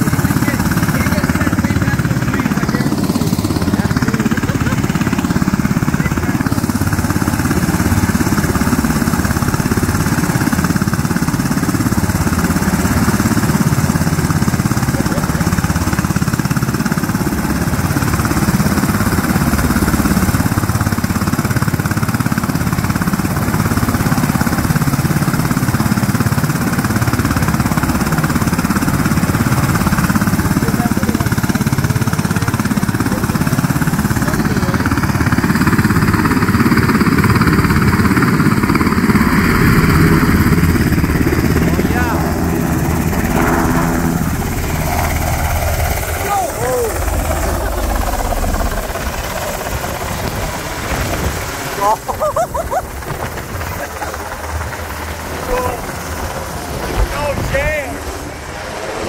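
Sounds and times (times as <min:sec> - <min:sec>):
helicopter rotor chopping: 0:00.0 - 0:59.0.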